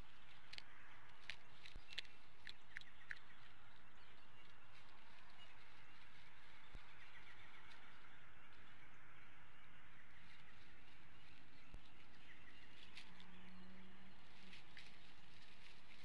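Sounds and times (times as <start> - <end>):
distant birds chirping: 0.0 - 16.0.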